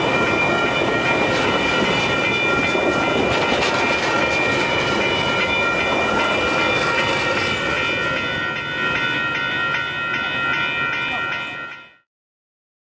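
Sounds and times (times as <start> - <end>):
train wheels clattering on rails: 0.0 - 11.6
crossing warning bell ringing: 0.0 - 12.1.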